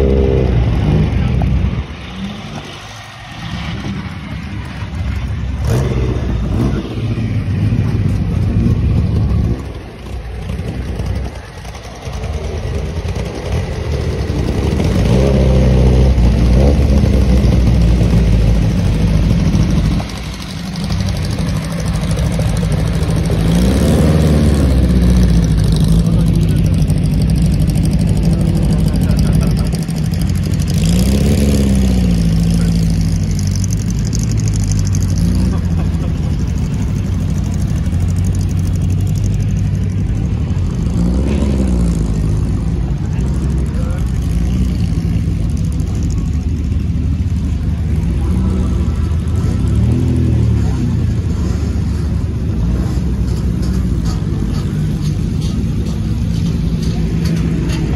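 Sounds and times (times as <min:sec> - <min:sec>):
racing car engine revving: 0:00.0 - 0:57.9.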